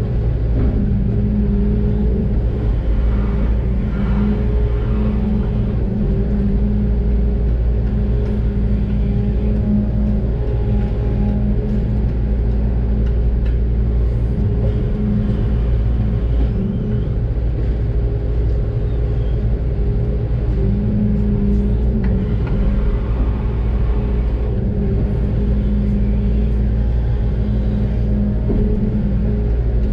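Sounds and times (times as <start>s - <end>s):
excavator diesel engine droning: 0.0s - 29.9s.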